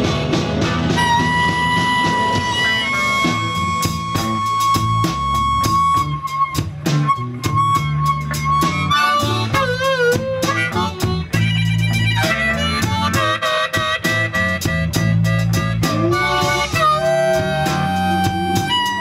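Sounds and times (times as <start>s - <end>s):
blues band playing: 0.0s - 19.0s
harmonica solo: 0.9s - 19.0s.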